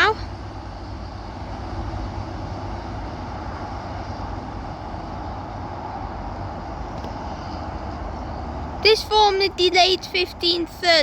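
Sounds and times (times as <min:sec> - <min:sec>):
diesel engines rumbling: 0:00.0 - 0:11.0
train wheels on rails: 0:00.0 - 0:11.0.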